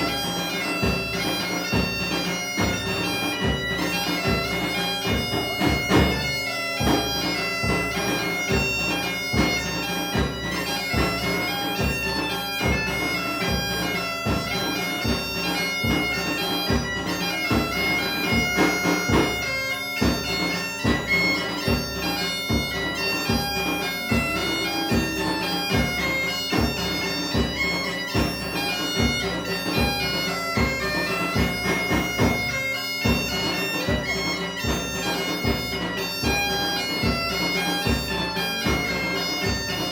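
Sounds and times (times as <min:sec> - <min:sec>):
bagpipe playing lively tune: 0:00.0 - 0:39.9.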